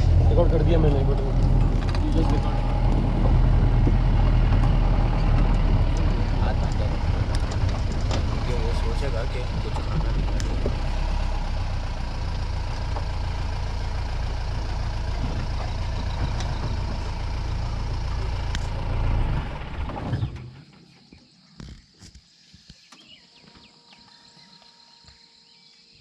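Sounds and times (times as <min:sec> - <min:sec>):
vehicle engine and road rumble: 0:00.0 - 0:23.2.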